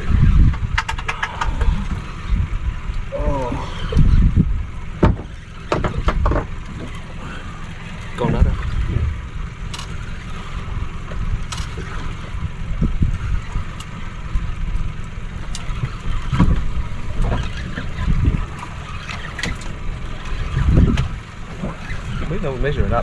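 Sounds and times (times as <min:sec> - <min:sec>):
wind buffeting microphone: 0:00.0 - 0:07.1, 0:08.1 - 0:23.0.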